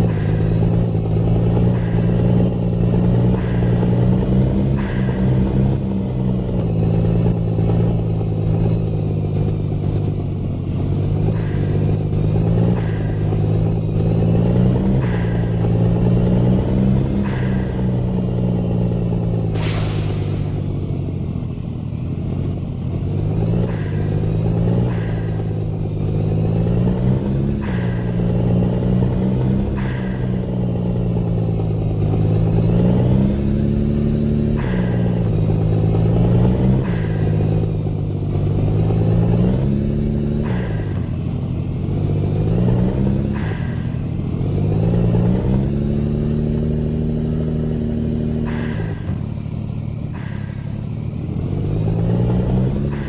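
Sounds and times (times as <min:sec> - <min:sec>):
vehicle engine revving: 0:00.0 - 0:53.0.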